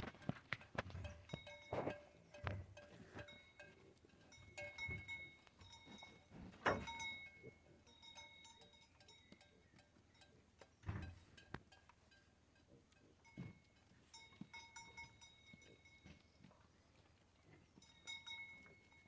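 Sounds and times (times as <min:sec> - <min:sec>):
livestock bells ringing: 0:01.0 - 0:10.5, 0:11.2 - 0:16.3, 0:17.8 - 0:19.0.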